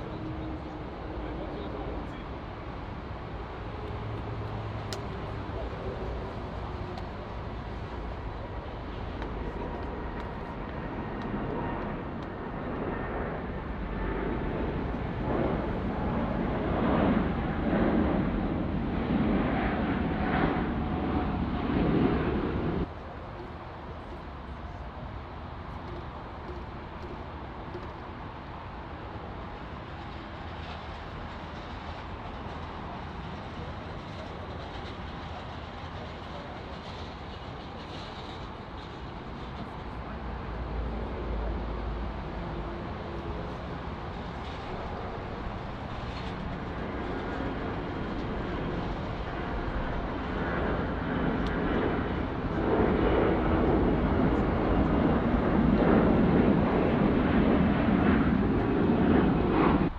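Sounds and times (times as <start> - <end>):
jet engines whining roar: 0.0 - 59.9.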